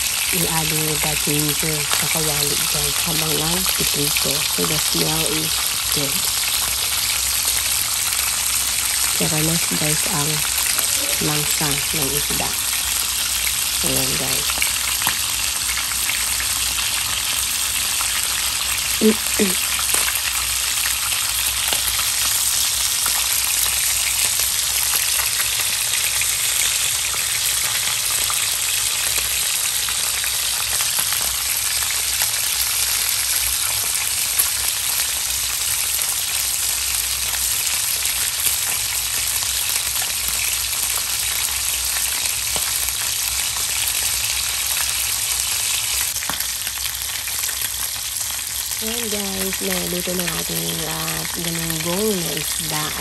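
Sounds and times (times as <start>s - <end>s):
oil sizzling around frying fish: 0.0s - 53.0s.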